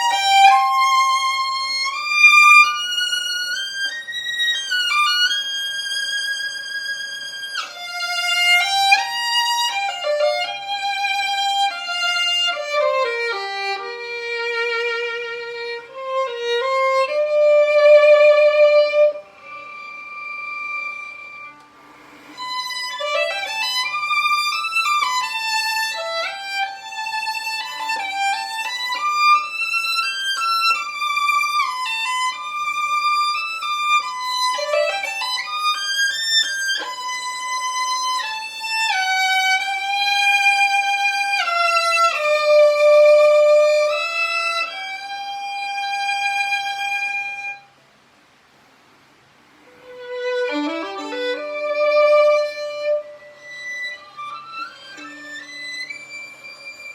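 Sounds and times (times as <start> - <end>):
bowed string melody: 0.0 - 47.6, 49.6 - 56.9.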